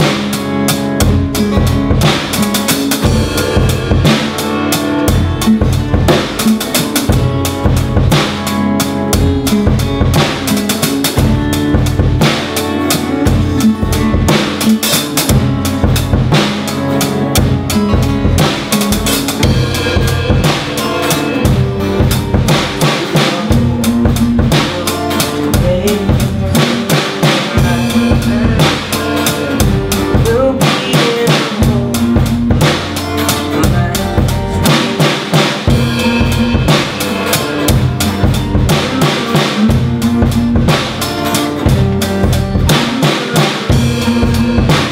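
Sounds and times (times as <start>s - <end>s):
drum kit beat: 0.0s - 44.9s
electric guitar: 0.0s - 44.9s
strummed acoustic guitars: 0.0s - 44.9s.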